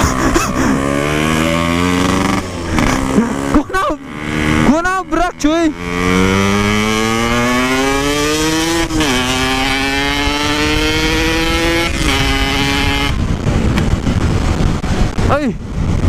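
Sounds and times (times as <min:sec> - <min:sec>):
motorcycle engine accelerating: 0:00.0 - 0:16.0
wind and road noise: 0:00.0 - 0:16.0.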